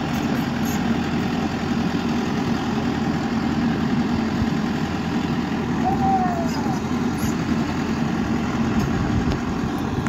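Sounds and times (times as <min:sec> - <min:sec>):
drilling rig engine idling: 0:00.0 - 0:10.0.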